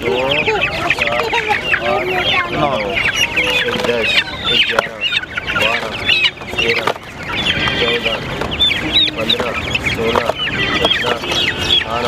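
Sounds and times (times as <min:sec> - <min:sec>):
chicks cheeping and clucking: 0:00.0 - 0:12.0.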